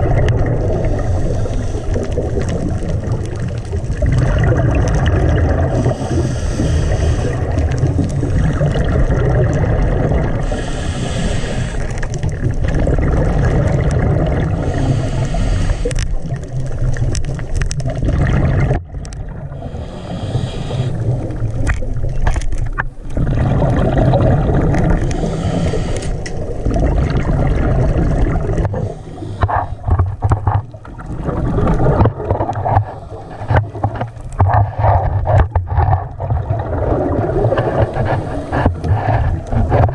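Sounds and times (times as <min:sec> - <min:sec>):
muffled underwater water rumble: 0:00.0 - 0:39.9.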